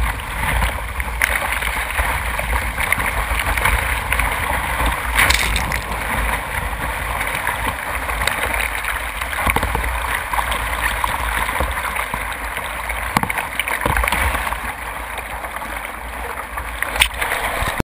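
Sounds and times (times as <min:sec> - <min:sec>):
deep rumble: 0:00.0 - 0:17.8
surf rushing and splashing: 0:00.0 - 0:17.8.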